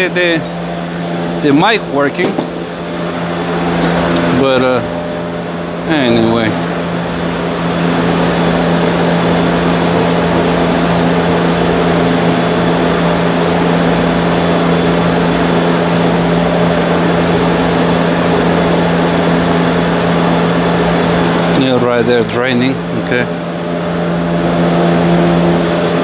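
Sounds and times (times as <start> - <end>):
loud machine hum: 0.0 - 26.0.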